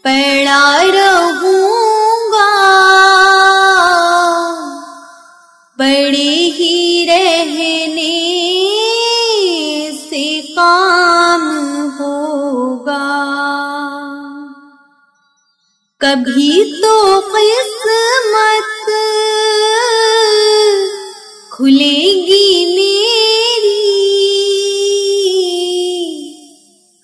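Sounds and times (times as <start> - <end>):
woman singing unaccompanied: 0.0 - 14.8, 16.0 - 26.7.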